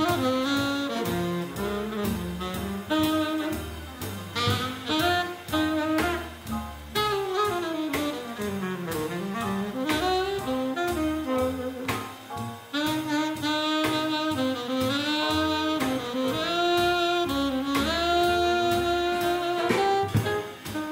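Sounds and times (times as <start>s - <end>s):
drum kit cymbals: 0.0s - 20.9s
piano: 0.0s - 20.9s
saxophone melodic runs: 0.0s - 20.9s
walking upright bass: 0.0s - 20.9s.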